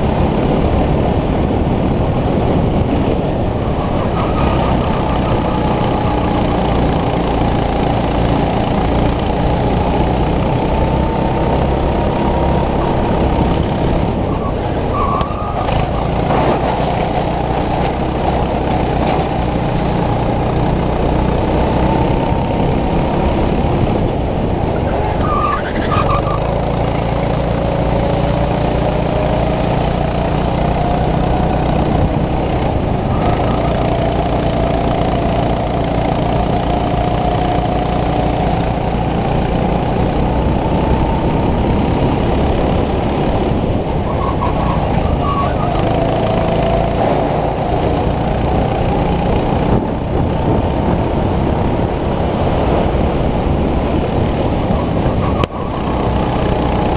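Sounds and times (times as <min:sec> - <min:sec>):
kart engine running hard: 0:00.0 - 0:56.9.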